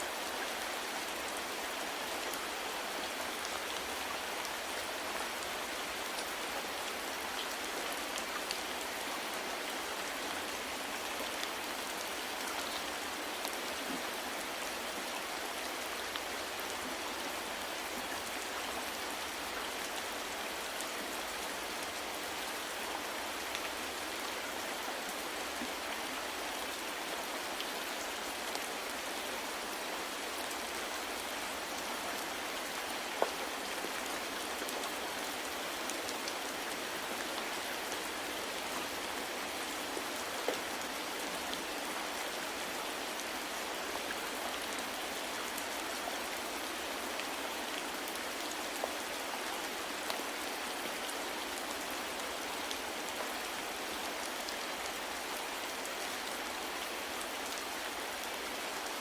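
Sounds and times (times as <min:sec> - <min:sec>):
soft rain falling: 0:00.0 - 0:59.0.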